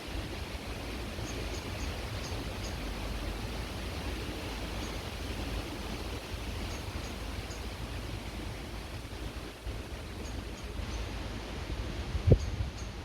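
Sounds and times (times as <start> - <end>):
creek water rushing: 0.0 - 12.3
low wind rumble: 0.0 - 13.0.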